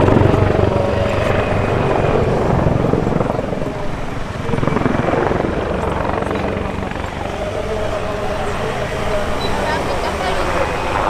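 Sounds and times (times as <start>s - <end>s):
helicopter engine whine: 0.0s - 11.0s
helicopter rotor beating: 0.0s - 11.0s.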